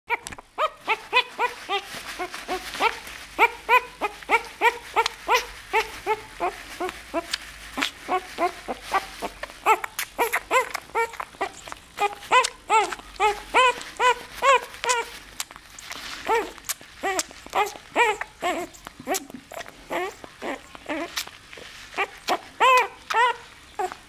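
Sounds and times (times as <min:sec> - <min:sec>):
puppy crying with high squeals: 0:00.1 - 0:15.2, 0:16.2 - 0:24.0.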